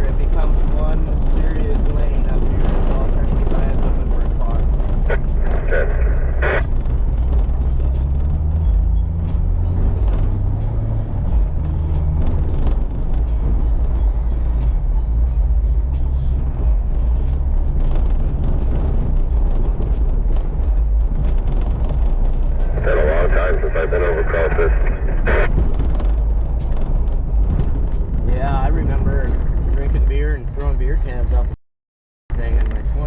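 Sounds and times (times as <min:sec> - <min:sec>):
truck engine and road rumble: 0:00.0 - 0:31.6, 0:32.3 - 0:33.0.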